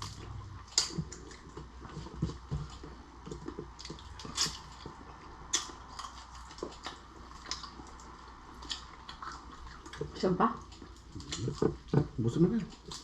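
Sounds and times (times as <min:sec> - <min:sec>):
chewing shellfish: 0:00.0 - 0:13.0.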